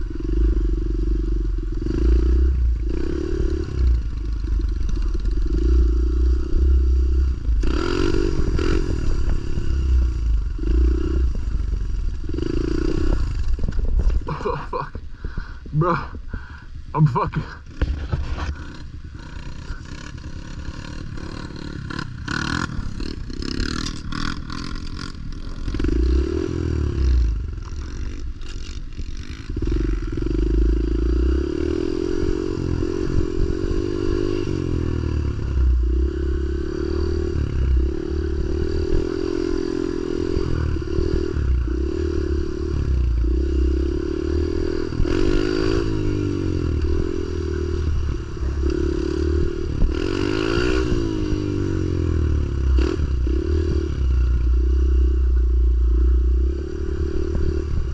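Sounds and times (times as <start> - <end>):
small motorbike engine revving: 0.0 - 57.9.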